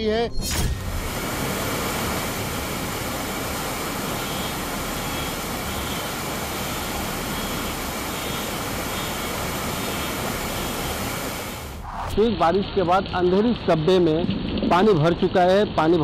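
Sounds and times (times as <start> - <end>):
heavy rain pouring on street: 0.8 - 16.0.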